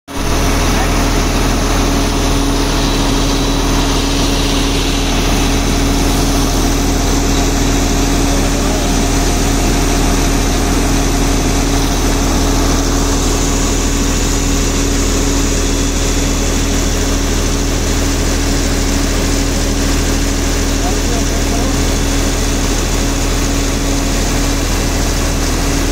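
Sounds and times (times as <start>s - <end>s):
crane diesel engine droning: 0.1s - 25.9s.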